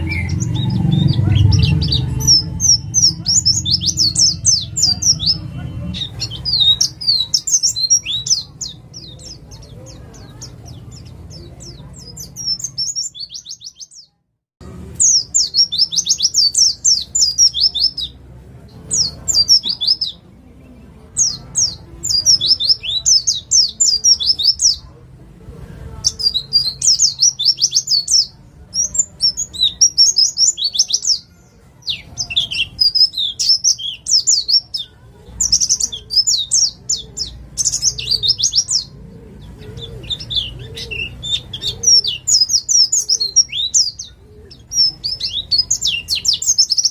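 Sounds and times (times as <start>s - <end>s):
bird singing rapid high chirps: 0.0s - 14.2s, 15.0s - 18.2s, 21.1s - 24.8s, 26.0s - 46.9s.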